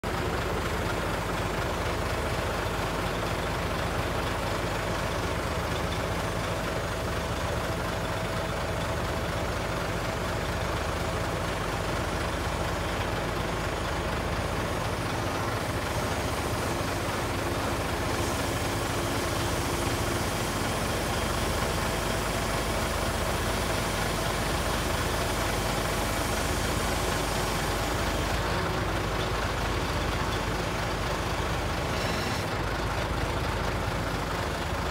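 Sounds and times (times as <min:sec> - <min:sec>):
diesel truck engine idling: 0:00.0 - 0:34.9
hydraulic crane working: 0:00.0 - 0:34.9.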